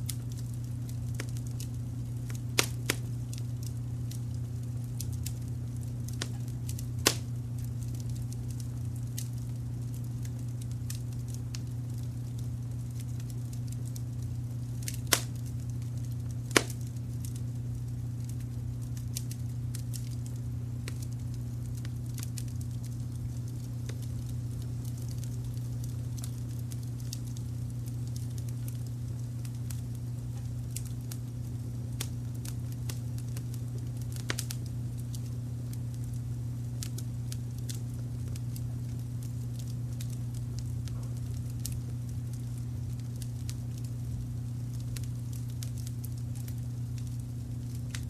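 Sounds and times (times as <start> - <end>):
loud fire pops: 0.0 - 48.0
wood fire crackling: 0.0 - 48.0.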